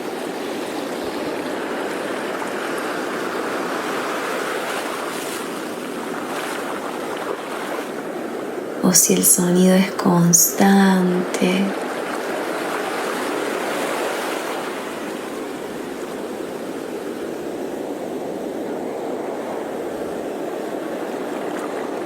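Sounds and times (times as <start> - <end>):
waves washing on shore: 0.0 - 8.8, 10.3 - 22.0.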